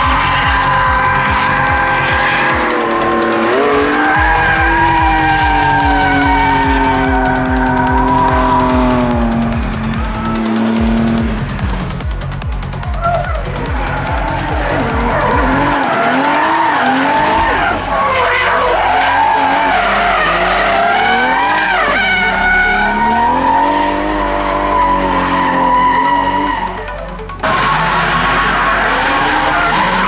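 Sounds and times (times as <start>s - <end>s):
car engine revving hard: 0.0s - 26.8s, 27.4s - 30.0s
tyres skidding on asphalt: 0.0s - 30.0s.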